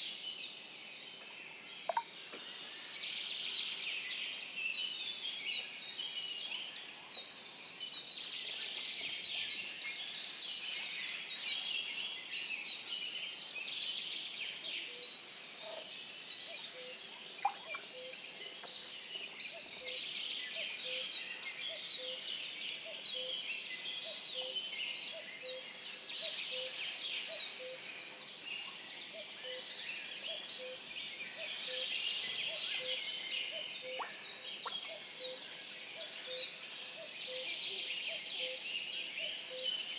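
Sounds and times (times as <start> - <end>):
woodland birds singing: 0.0 - 39.9.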